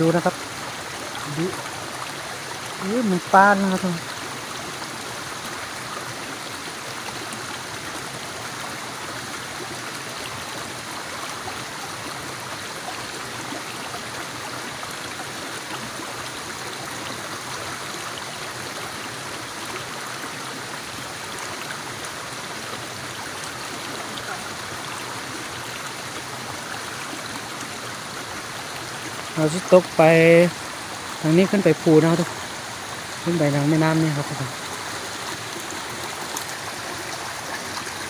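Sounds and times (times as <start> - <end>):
stream water rushing over stones: 0.0 - 38.0.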